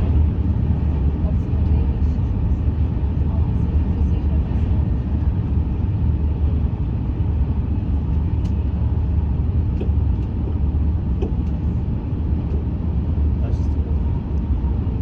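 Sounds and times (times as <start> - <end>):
high-speed train rumbling: 0.0 - 15.0.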